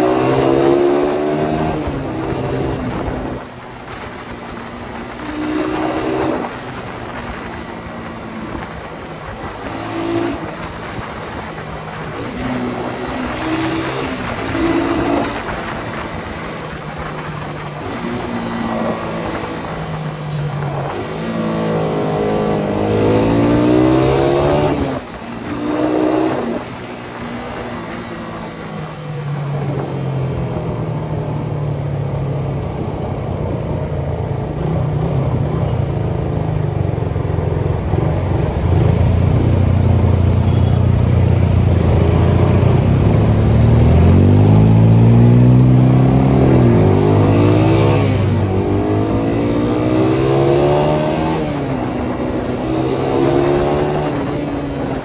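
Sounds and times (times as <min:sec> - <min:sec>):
motorcycle engine revving hard: 0:00.0 - 0:55.0.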